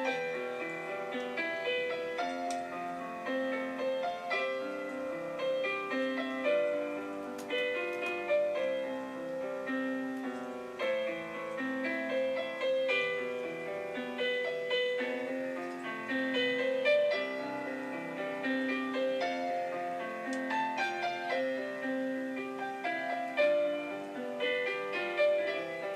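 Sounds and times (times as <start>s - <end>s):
gentle piano music: 0.0s - 25.9s.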